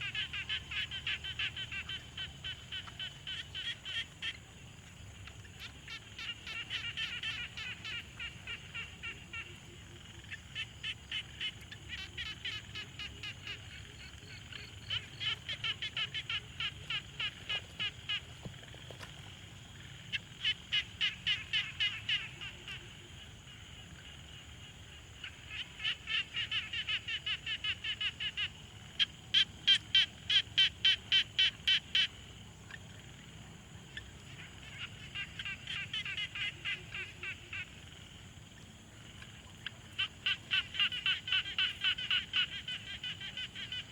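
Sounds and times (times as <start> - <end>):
frogs croaking: 0.0 - 43.9.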